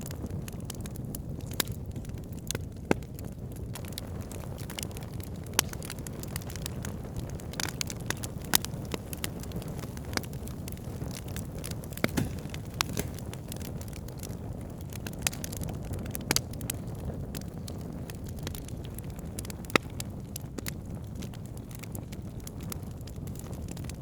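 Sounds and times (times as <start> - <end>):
campfire flames rumbling: 0.0 - 24.0
logs crackling and popping: 0.0 - 24.0.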